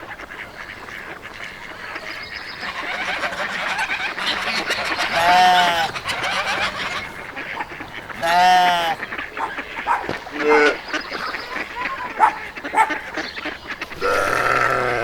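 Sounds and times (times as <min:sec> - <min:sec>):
drawn-out fowl call: 0:00.0 - 0:15.0
flock of fowl calling: 0:00.0 - 0:15.0.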